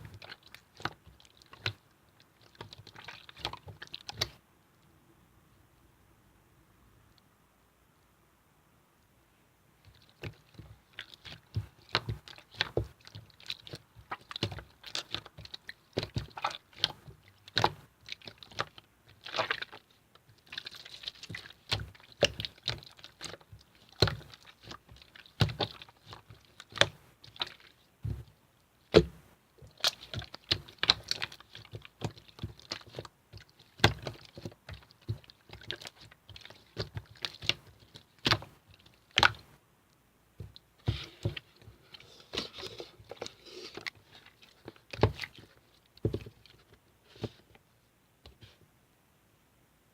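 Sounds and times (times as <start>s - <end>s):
slime squishing with sticky pops: 0.0s - 4.4s, 9.8s - 39.6s, 40.4s - 47.5s.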